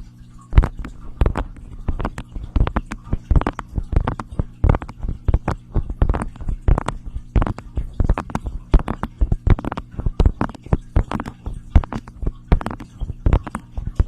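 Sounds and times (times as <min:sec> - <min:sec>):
faint low hum: 0:00.0 - 0:14.0
sharp tapping and clicking: 0:00.6 - 0:14.0.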